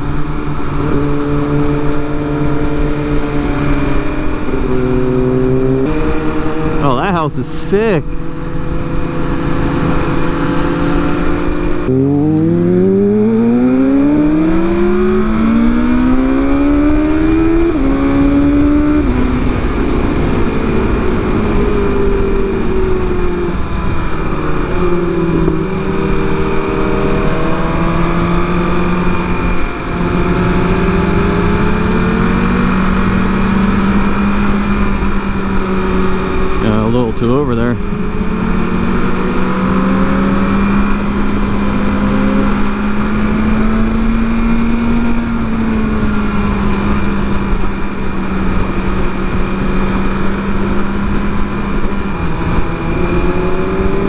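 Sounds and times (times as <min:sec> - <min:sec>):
motorcycle engine accelerating: 0:00.0 - 0:07.1, 0:08.0 - 0:54.0.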